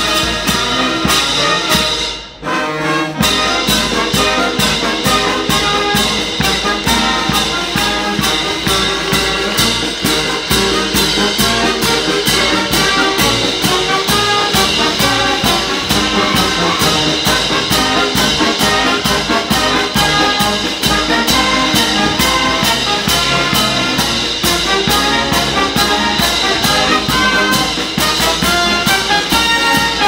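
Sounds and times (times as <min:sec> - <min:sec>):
wind band playing lively tune: 0:00.0 - 0:30.0.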